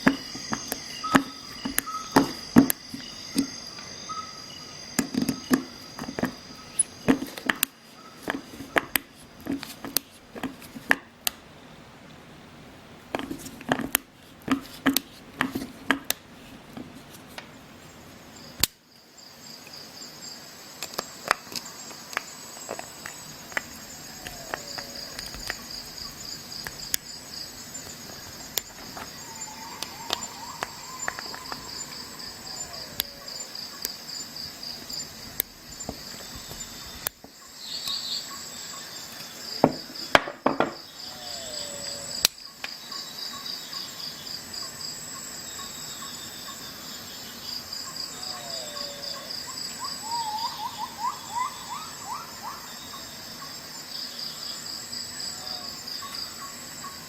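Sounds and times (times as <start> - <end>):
insects trilling: 0.0 - 10.8, 17.5 - 57.0.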